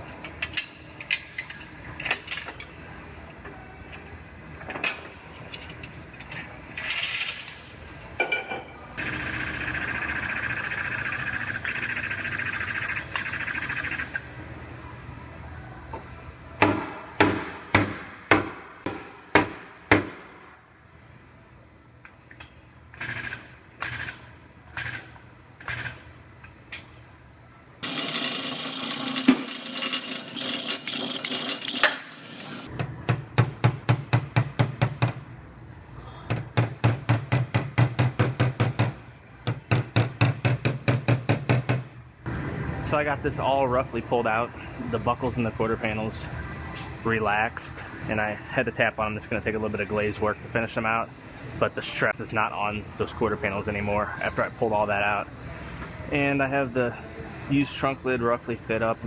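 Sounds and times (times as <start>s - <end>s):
steady mechanical noise: 8.9s - 59.0s.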